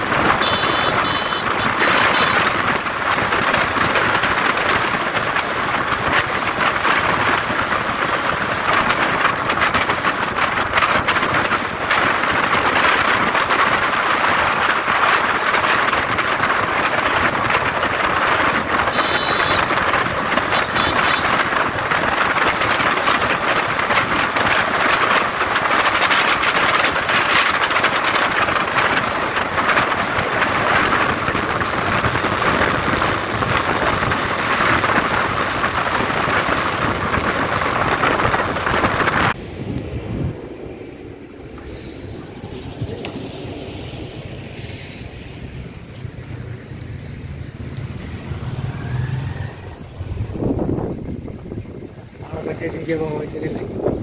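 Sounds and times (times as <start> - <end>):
wind and road rushing noise: 0.0 - 54.0.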